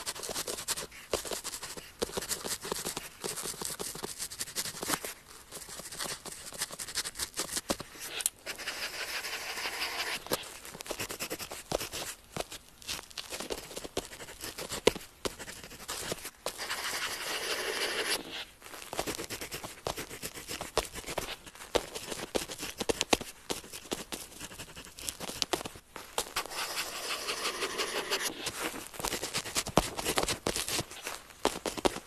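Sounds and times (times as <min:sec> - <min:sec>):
pen scratching on paper: 0:00.0 - 0:12.2, 0:13.4 - 0:25.6, 0:26.2 - 0:31.0.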